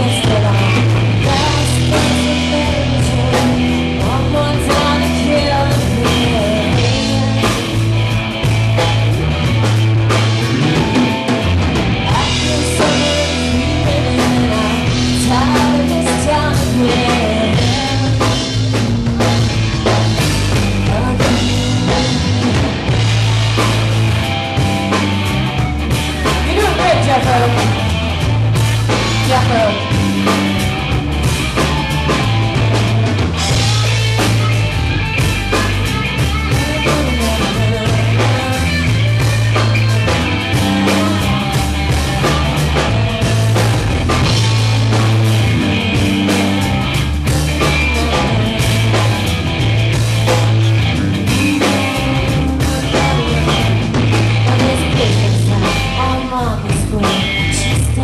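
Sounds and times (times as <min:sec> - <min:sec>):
bass line: 0:00.0 - 0:58.0
drums: 0:00.0 - 0:58.0
live rock band playing: 0:00.0 - 0:58.0.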